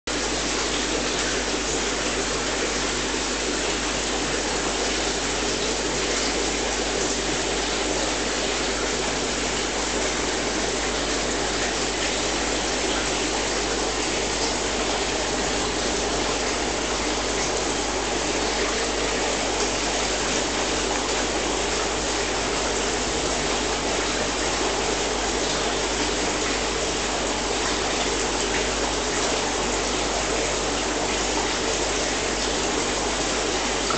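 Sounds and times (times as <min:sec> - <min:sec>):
rushing water: 0:00.1 - 0:33.9.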